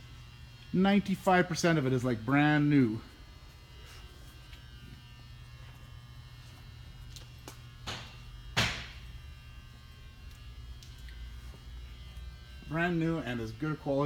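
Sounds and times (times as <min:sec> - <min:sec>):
low electrical hum with buzz: 0:00.0 - 0:14.0.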